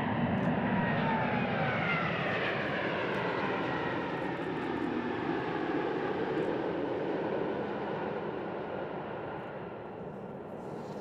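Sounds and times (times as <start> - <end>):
jet engine roar: 0.0 - 11.0
jet engine whine: 0.0 - 11.0.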